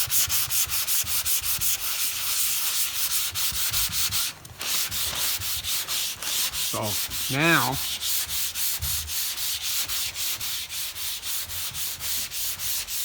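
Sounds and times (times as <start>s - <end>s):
sandpaper rasping on metal: 0.0s - 13.0s.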